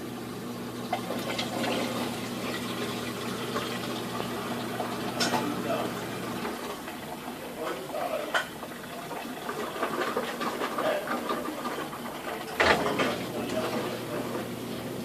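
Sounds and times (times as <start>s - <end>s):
washing machine draining: 0.0s - 15.0s.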